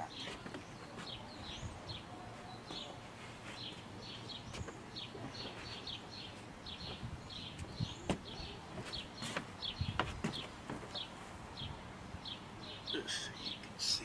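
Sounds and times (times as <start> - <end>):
faint outdoor ambience: 0.0 - 14.0
small birds chirping: 0.0 - 14.0.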